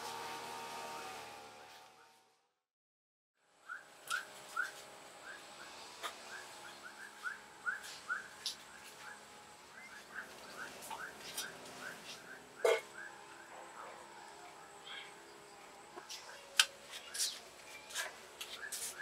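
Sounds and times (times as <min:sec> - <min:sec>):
bird chirping: 0:03.6 - 0:19.0.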